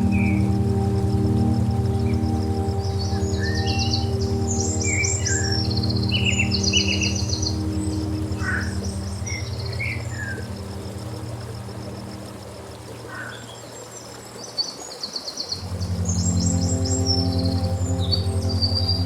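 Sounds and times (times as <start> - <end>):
ambient music drone: 0.0 - 13.8, 15.6 - 19.0
songbirds chirping: 0.0 - 19.0.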